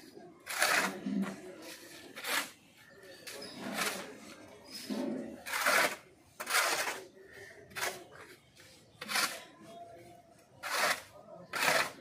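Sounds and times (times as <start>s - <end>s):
shovel scraping on concrete: 0.4s - 2.6s, 3.2s - 9.6s, 10.6s - 12.0s.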